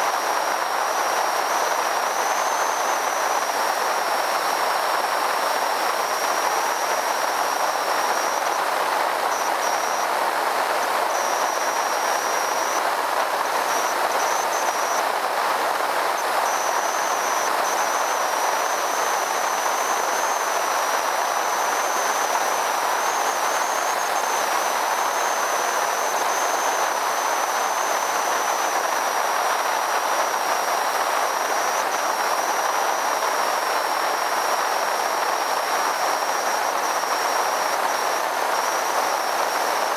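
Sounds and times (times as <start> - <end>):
thin high whine: 0.0 - 39.9.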